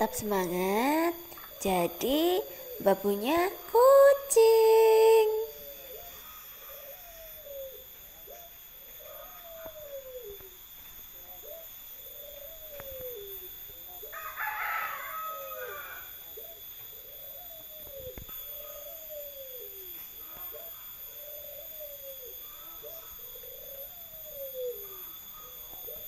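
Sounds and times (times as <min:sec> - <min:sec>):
animal calling: 0:00.0 - 0:26.0.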